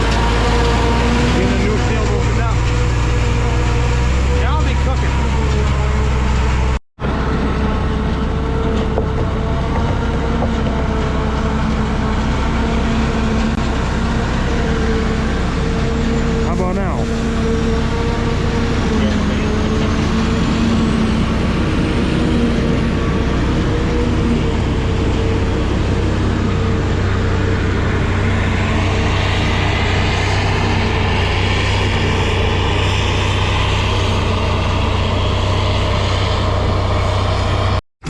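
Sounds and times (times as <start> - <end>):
farm machinery engine running: 0.0 - 37.8.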